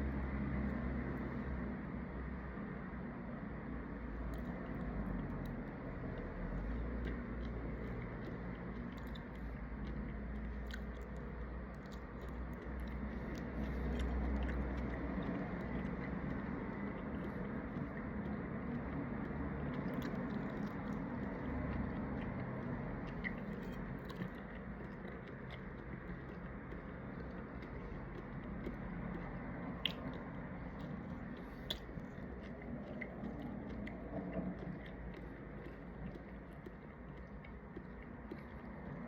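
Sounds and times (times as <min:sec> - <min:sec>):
steady low hum: 0:00.0 - 0:39.0
person chewing shrimp: 0:03.8 - 0:39.0.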